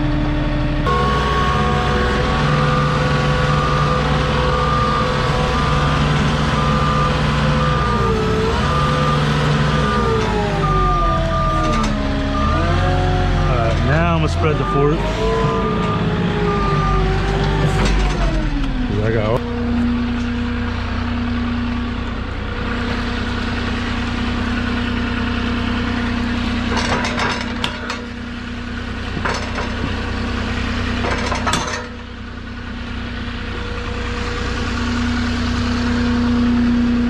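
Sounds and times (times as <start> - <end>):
diesel engine idling: 0.0 - 37.0
engine rattling bursts: 0.0 - 37.0.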